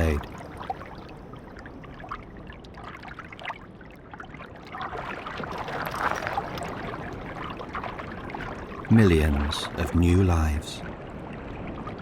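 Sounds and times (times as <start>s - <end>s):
river water running and splashing: 0.0s - 12.0s.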